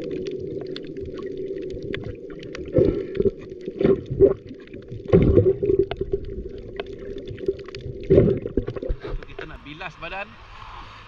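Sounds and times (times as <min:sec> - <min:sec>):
water splashing against hull: 0:00.0 - 0:09.6.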